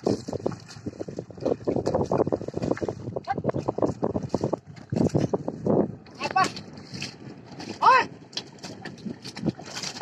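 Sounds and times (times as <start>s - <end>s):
muddy water sloshing and splashing: 0.0s - 10.0s.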